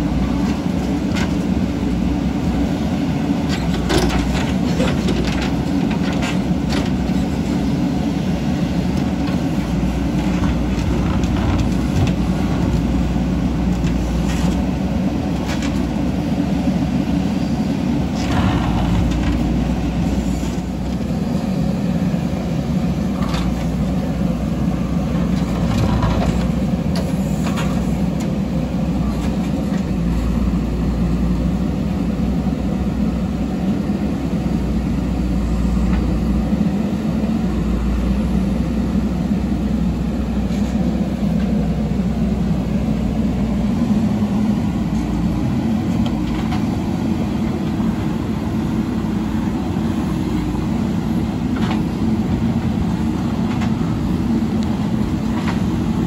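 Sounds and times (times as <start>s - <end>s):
heavy machine engine running: 0.0s - 56.0s.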